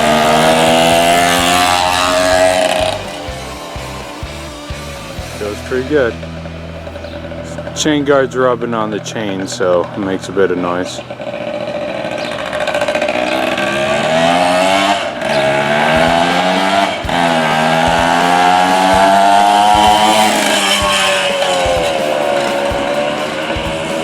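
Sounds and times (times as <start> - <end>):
two-stroke motorbike engine revving: 0.0 - 24.0.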